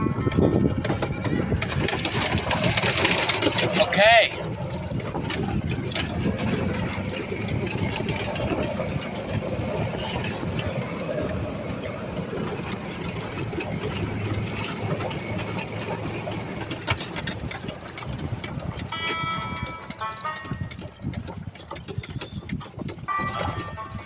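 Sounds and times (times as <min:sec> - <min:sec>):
mechanical rattling and clicking: 0:00.0 - 0:24.0
small vehicle engine humming: 0:00.0 - 0:24.0.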